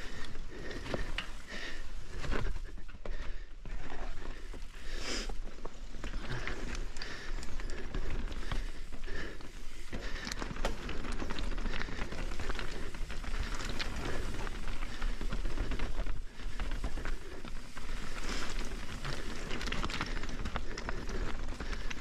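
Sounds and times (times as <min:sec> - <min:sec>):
bike tyres crunching over rocks: 0:00.0 - 0:22.0.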